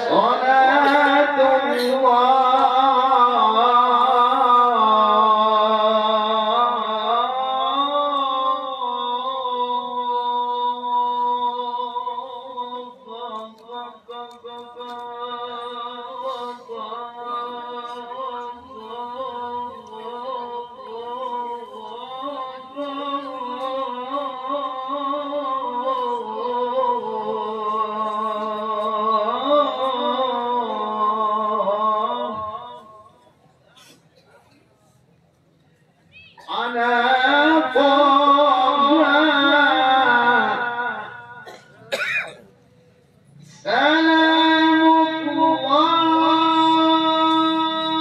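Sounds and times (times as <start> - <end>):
man reciting melodically: 0.0 - 33.2, 36.4 - 41.4, 43.6 - 48.0.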